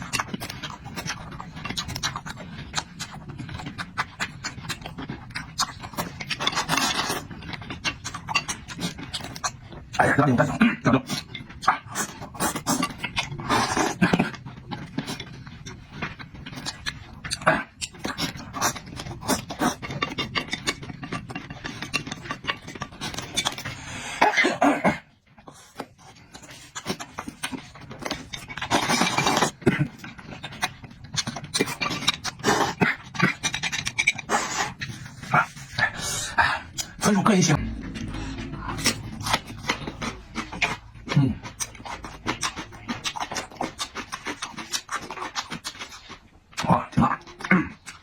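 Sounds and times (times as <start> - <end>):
wet chewing and lip smacking: 0.0 - 10.1, 10.8 - 24.2, 25.3 - 37.1, 38.8 - 48.0.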